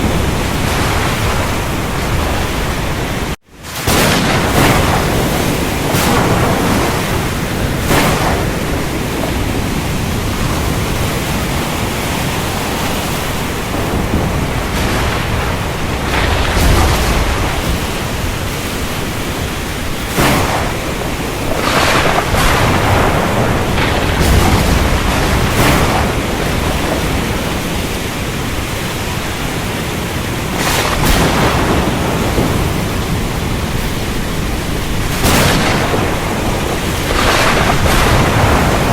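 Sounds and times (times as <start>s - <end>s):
sharp thunder cracks: 0.0s - 29.6s, 30.3s - 38.9s
heavy rain: 0.0s - 38.9s
thunder rumbling: 0.0s - 38.9s.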